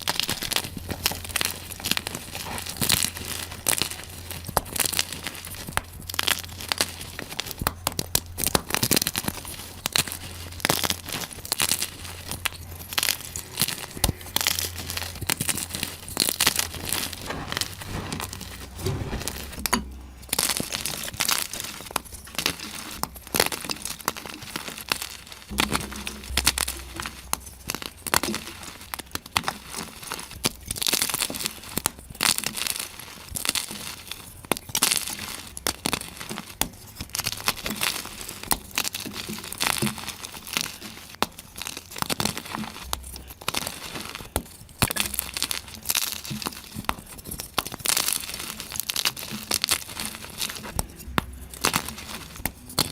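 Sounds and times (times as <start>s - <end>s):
chalk crunching: 0.0s - 52.9s.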